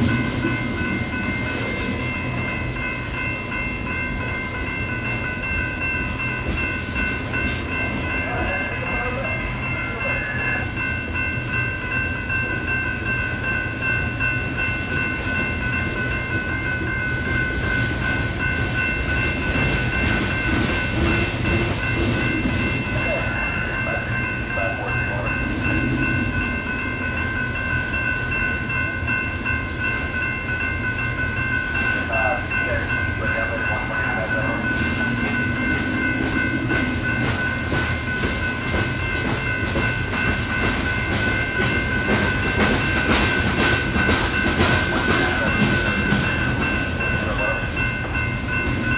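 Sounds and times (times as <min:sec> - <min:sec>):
electronic crossing bells ringing: 0:00.0 - 0:48.9
train wheels rumbling on rails: 0:00.0 - 0:48.9.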